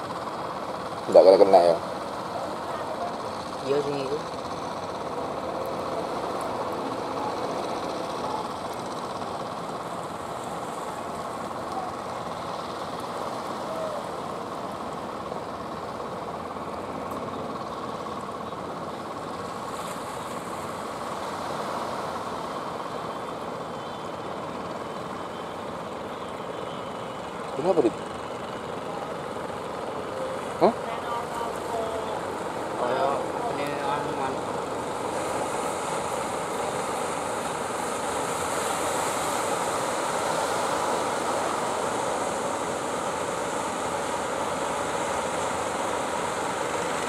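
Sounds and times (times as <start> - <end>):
fishing boat engines droning: 0.0 - 47.0.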